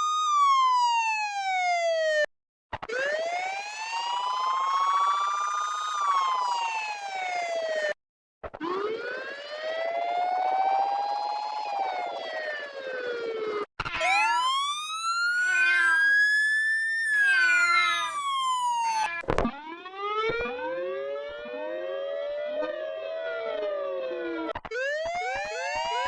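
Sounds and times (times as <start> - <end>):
police siren wailing: 0.0 - 2.3, 2.9 - 8.0, 8.6 - 26.0.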